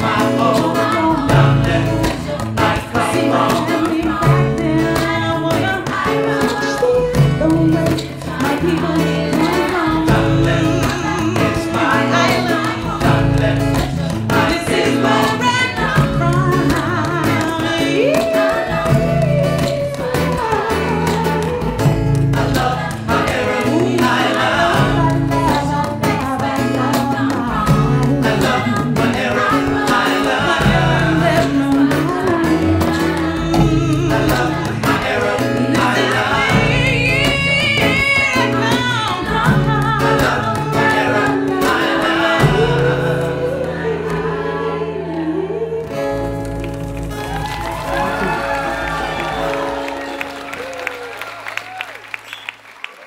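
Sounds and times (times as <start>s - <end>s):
several voices singing: 0.0s - 46.6s
instrumental backing: 0.0s - 51.2s.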